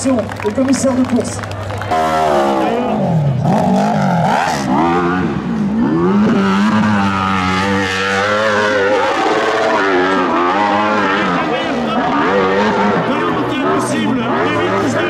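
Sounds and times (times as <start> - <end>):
dirt bike engine revving: 1.7 - 15.0.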